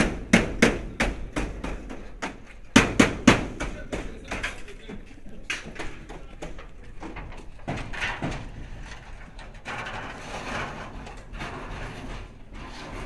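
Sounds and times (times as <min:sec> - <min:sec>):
knocks on metal roofing: 0:00.0 - 0:13.0
scraping on metal roofing: 0:00.0 - 0:13.0.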